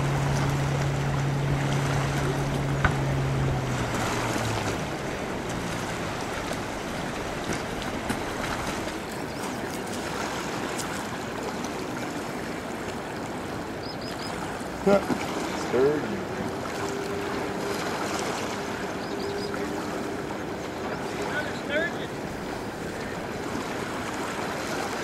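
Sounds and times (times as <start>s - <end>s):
engine humming: 0.0s - 25.0s
river water rushing: 0.0s - 25.0s
wind: 0.0s - 25.0s.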